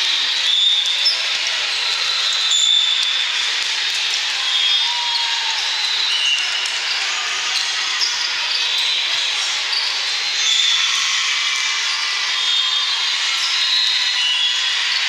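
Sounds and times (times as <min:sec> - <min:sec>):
crowd noise: 0:00.0 - 0:15.0.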